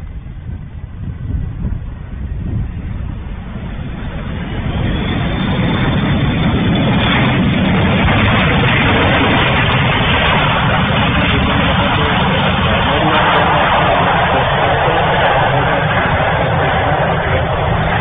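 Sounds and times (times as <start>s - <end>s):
jet engine noise on runway: 0.0s - 18.0s.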